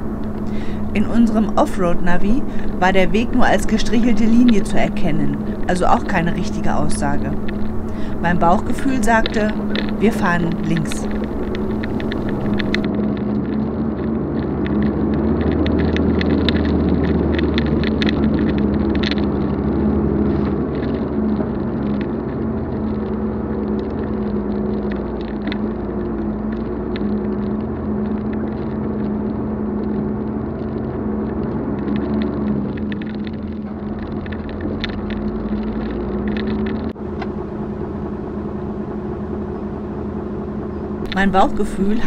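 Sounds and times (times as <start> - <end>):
sharp clicks and rattles: 0.0 - 37.8
vehicle engine drone: 0.0 - 42.0.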